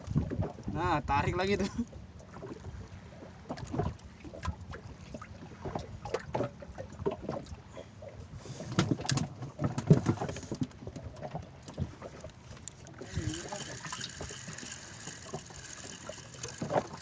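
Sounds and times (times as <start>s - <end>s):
wind and sea rumble: 0.0s - 17.0s.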